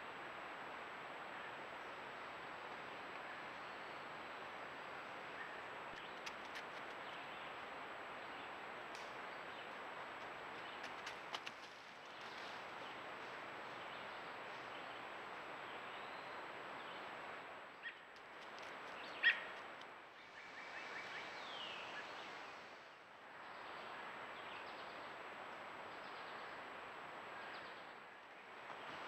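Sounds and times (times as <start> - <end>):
woodland background hiss: 0.0 - 29.0.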